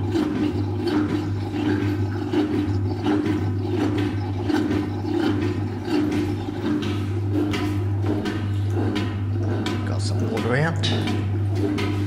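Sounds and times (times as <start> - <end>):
pulsing pump whir: 0.0 - 12.0
washing machine spinning: 0.0 - 12.0.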